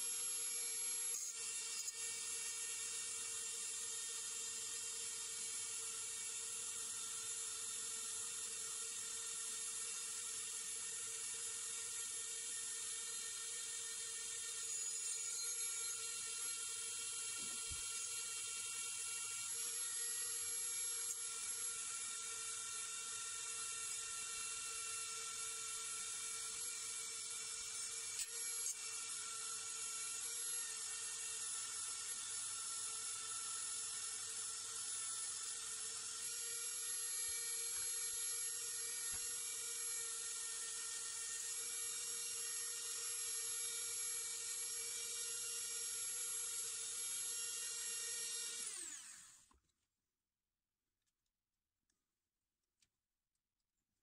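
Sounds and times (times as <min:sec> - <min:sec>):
rotary tool high whine: 0:00.0 - 0:49.6.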